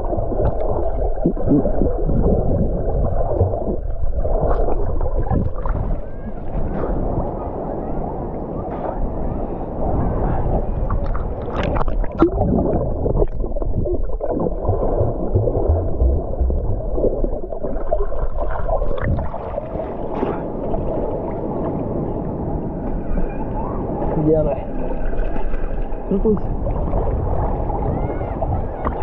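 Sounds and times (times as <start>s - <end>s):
muffled water sloshing and gurgling: 0.0s - 29.0s.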